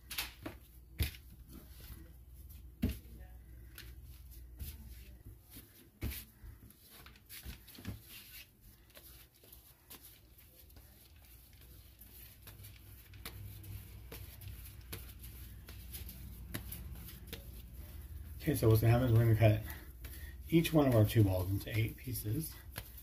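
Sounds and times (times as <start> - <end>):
hands patting dough: 0.0 - 23.0.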